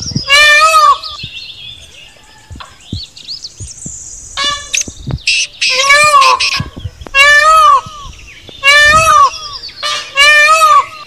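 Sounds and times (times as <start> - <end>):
loud drawn-out bird calls: 0.0 - 11.0
small birds chirping: 0.0 - 11.0.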